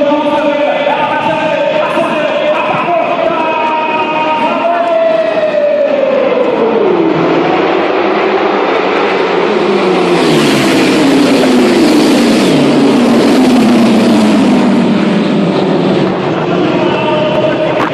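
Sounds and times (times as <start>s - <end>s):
racing motorcycles passing: 0.0s - 17.9s.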